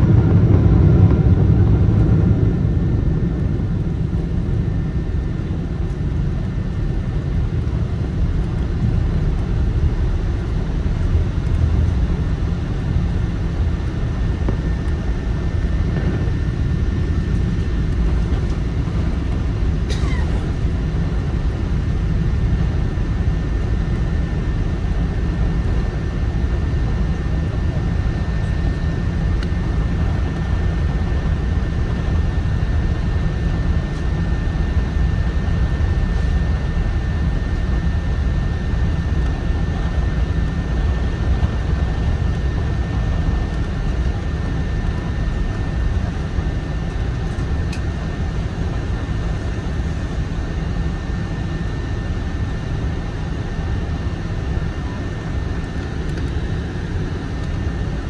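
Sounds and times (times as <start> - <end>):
faint steady whine: 0.0 - 58.0
jet engines rumbling: 0.0 - 58.0.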